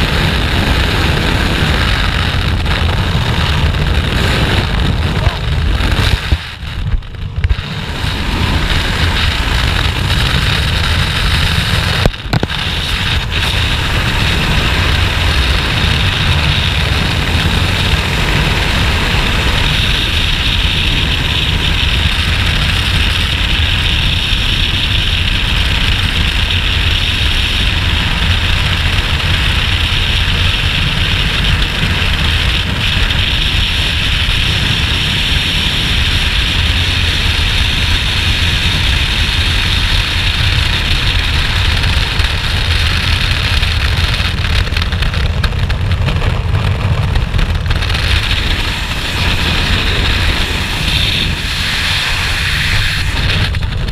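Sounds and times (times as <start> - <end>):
freefall wind over microphone: 0.0 - 53.9.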